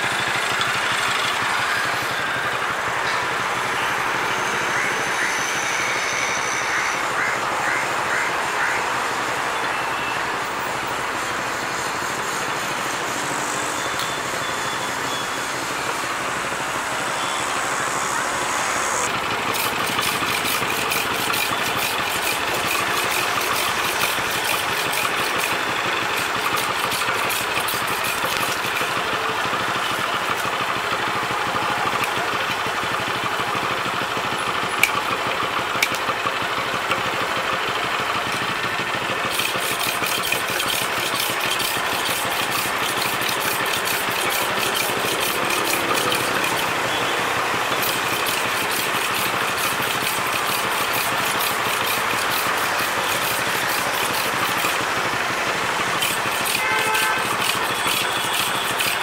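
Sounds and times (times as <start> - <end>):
motor-driven crusher running: 0.0 - 7.2, 10.4 - 59.0.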